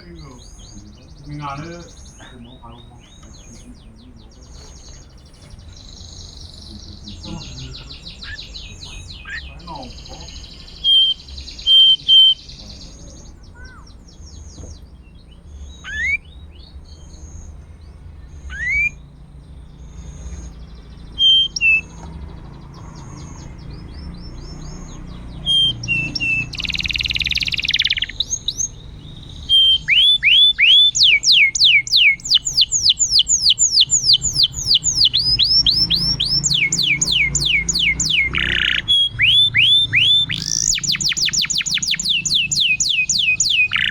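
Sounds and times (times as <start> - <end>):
canary singing: 0.0 - 43.9.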